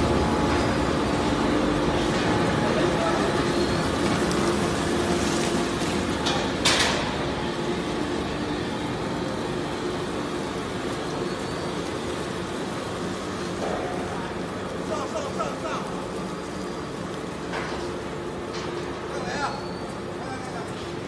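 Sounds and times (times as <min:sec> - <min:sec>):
plastic shredder machine running: 0:00.0 - 0:20.2.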